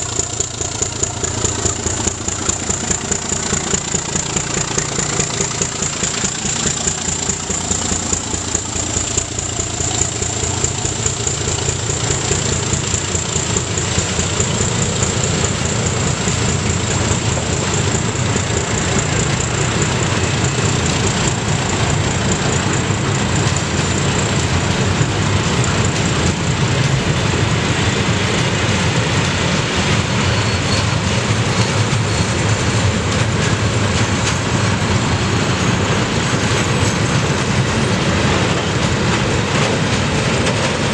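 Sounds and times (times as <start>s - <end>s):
diesel locomotive engines: 0.0s - 40.9s
train wheels rumbling and clattering: 0.0s - 40.9s.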